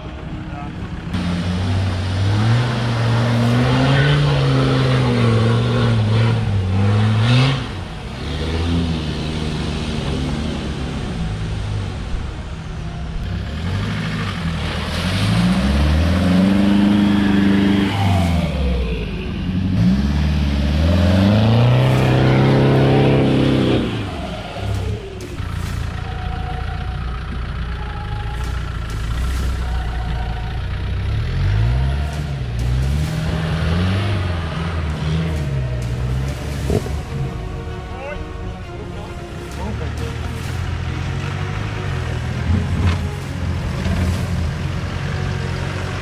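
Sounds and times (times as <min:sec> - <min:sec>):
off-road engine revving: 0:00.0 - 0:12.4, 0:13.1 - 0:46.0.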